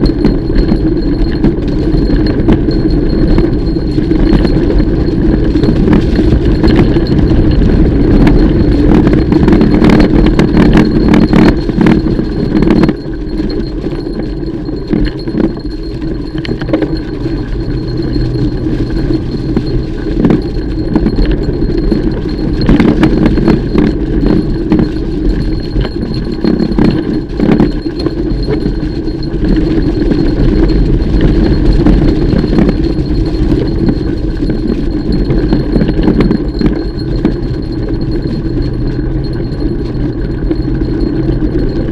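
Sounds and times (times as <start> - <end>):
bike chain rattling and clanking: 0.0 - 41.9
bike tyres rumbling on dirt: 0.0 - 41.9.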